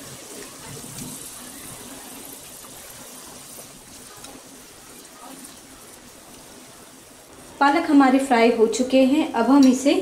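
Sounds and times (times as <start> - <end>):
leaves sizzling in hot oil: 0.0 - 10.0.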